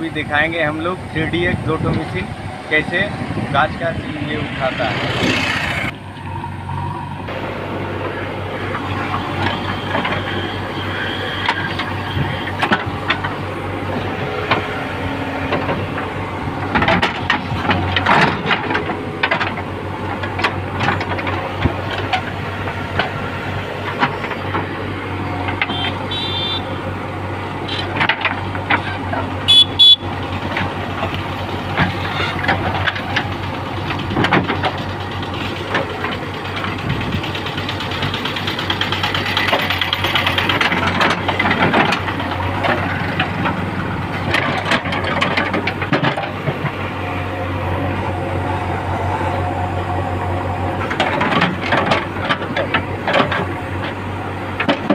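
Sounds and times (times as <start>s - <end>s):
diesel engine under load: 0.0s - 54.9s.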